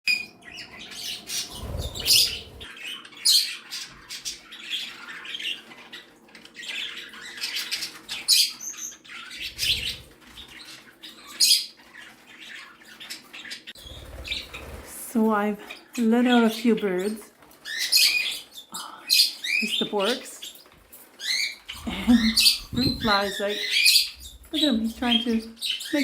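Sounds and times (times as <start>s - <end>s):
small parrots chirping and squawking: 0.1s - 14.9s, 15.6s - 26.0s.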